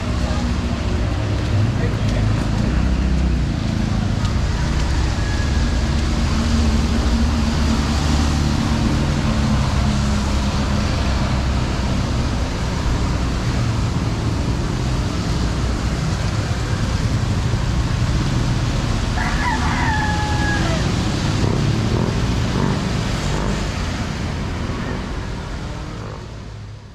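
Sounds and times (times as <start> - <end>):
vehicle engines passing: 0.0 - 26.9.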